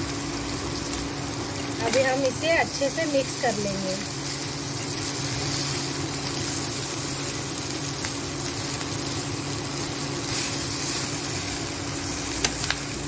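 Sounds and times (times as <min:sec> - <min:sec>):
food sizzling in a pan: 0:00.0 - 0:13.0
induction cooktop hum: 0:00.0 - 0:13.0.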